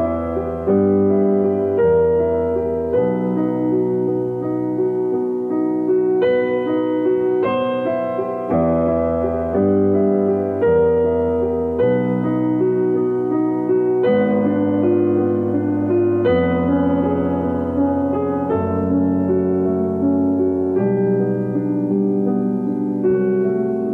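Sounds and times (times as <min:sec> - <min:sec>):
piano chords: 0:00.0 - 0:23.9.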